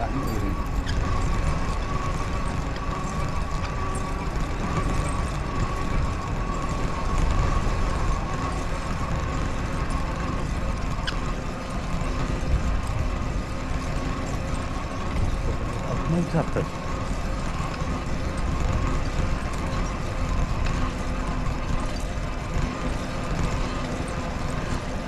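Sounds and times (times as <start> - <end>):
bicycle road rumble: 0.0 - 25.0
wind: 0.0 - 25.0.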